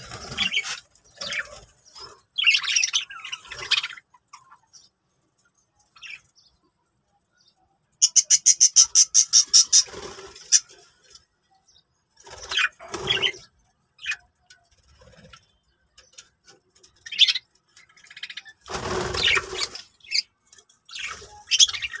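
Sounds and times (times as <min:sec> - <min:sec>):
budgerigars chirping and squawking: 0:00.0 - 0:05.0, 0:05.8 - 0:06.6, 0:08.0 - 0:11.2, 0:12.2 - 0:22.0.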